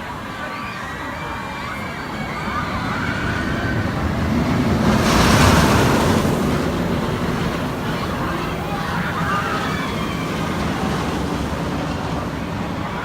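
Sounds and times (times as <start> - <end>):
loud rushing noise: 1.6 - 13.0.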